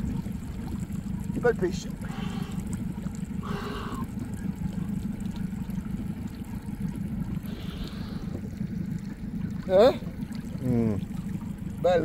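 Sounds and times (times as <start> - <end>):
low rumble: 0.0 - 12.0
water sloshing and splashing: 0.0 - 12.0.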